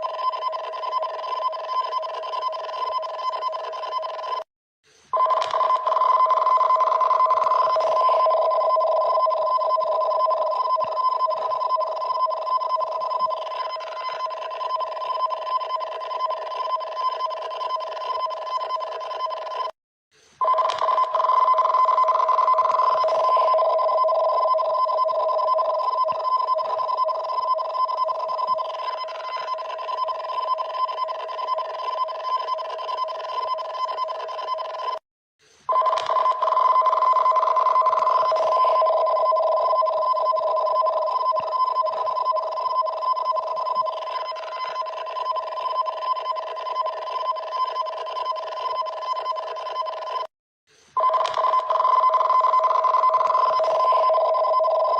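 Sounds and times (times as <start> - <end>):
harsh two-tone warning alarm: 0.0 - 4.4, 5.2 - 19.7, 20.4 - 35.0, 35.7 - 50.3, 51.0 - 54.9.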